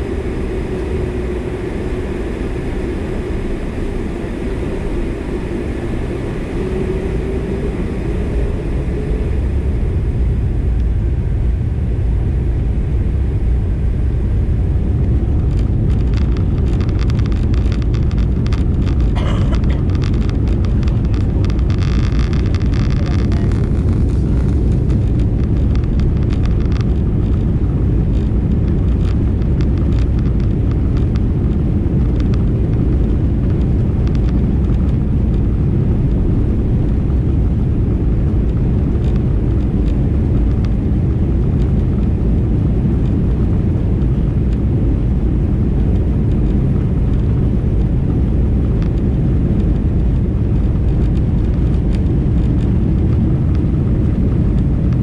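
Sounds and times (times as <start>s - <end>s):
jet airliner taxiing rumble: 0.0s - 55.0s.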